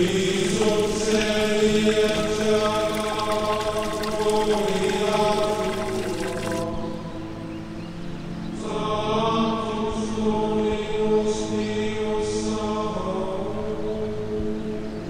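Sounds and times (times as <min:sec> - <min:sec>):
slow sung chant: 0:00.0 - 0:07.3, 0:08.4 - 0:15.0.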